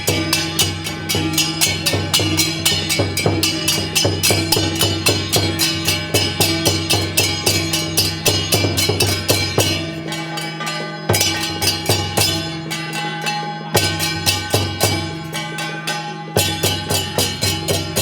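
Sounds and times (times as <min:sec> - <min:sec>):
traditional percussion music: 0:00.0 - 0:18.0.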